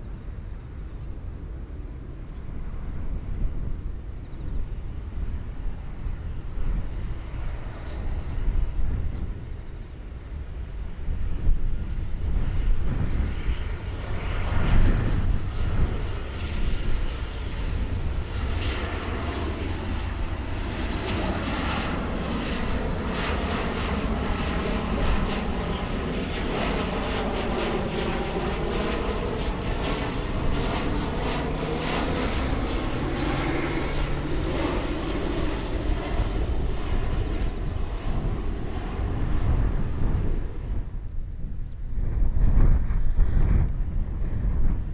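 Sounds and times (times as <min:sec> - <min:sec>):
jet airliner flying overhead: 0:00.0 - 0:44.9.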